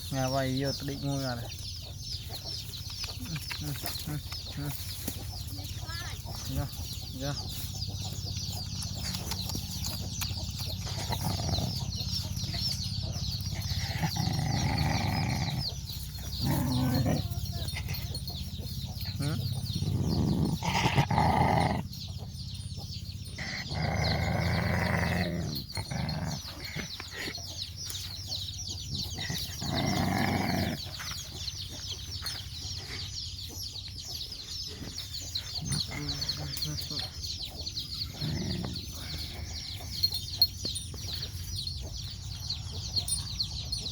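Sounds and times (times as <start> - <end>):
chickens clucking: 0.0 - 43.9
high-pitched chirping: 0.3 - 43.9.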